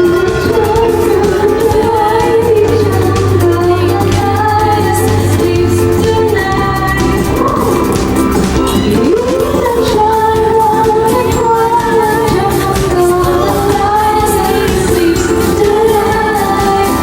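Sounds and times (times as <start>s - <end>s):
pop song with singing: 0.0s - 17.0s.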